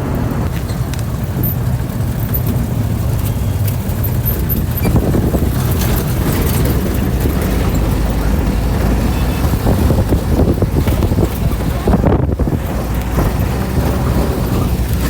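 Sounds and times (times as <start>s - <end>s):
moving vehicle engine and tyres rumble: 0.0s - 15.0s.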